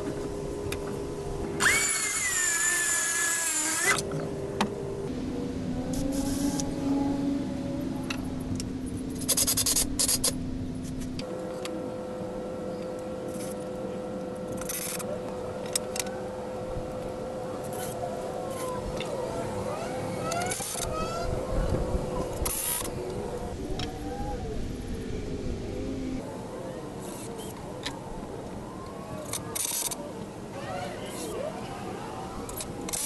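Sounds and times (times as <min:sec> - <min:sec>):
background hum: 0:00.0 - 0:33.0.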